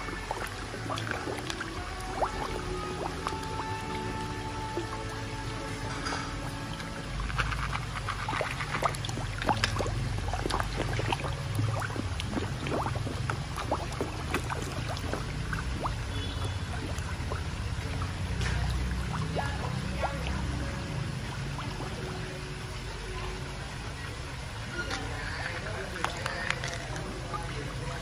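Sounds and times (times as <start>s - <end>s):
fish splashing water: 0.0s - 23.1s, 24.6s - 28.0s
steady low rumble: 0.0s - 23.1s.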